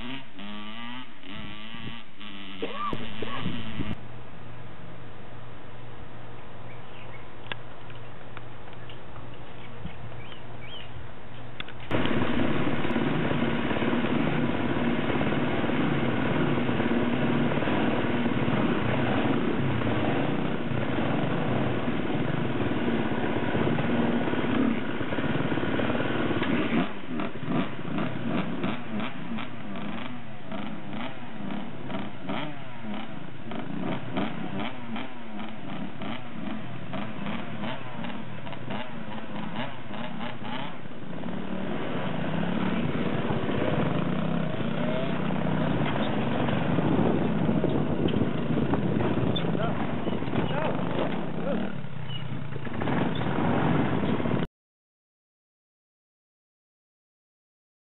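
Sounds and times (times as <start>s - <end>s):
dirt bike engines idling: 0.0s - 54.4s
motorcycle engine running steadily: 0.0s - 54.5s.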